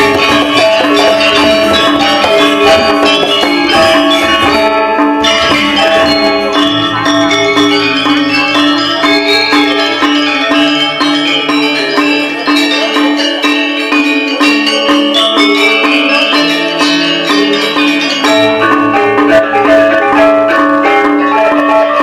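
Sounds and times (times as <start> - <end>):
gamelan ensemble playing: 0.0 - 22.0.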